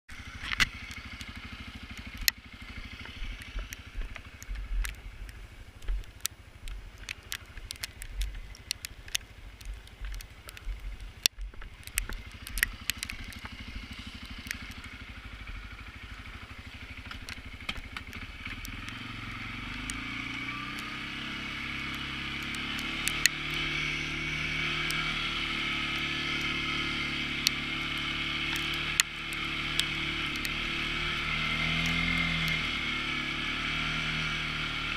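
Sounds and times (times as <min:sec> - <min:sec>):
quad engine running: 0:00.1 - 0:34.9
sharp clicks: 0:00.4 - 0:32.8.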